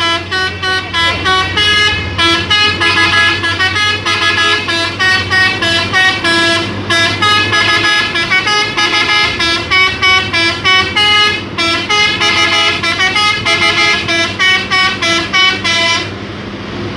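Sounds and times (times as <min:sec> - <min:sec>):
musical air horn tune: 0:00.0 - 0:16.1
truck engine hum: 0:00.0 - 0:16.9.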